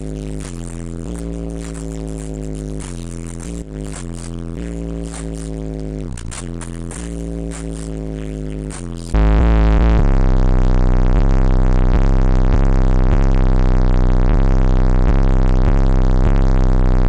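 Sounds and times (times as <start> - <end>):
bass-heavy synthesizer music: 0.0 - 17.0.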